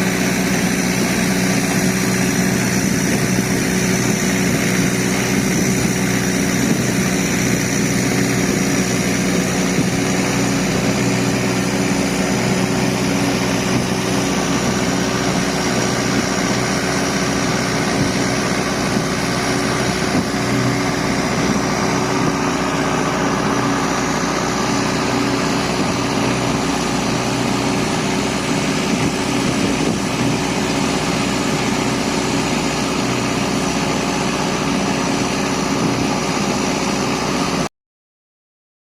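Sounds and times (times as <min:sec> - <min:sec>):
boat engine droning: 0:00.0 - 0:37.7.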